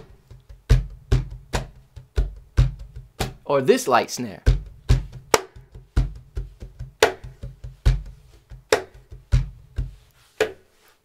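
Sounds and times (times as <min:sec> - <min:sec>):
cajon played by hand: 0:00.0 - 0:03.5, 0:04.4 - 0:10.6.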